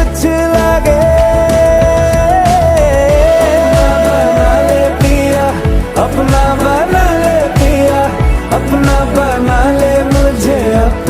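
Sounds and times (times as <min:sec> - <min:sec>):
song with sung melody: 0:00.0 - 0:11.0
steady bass beat: 0:00.0 - 0:11.0.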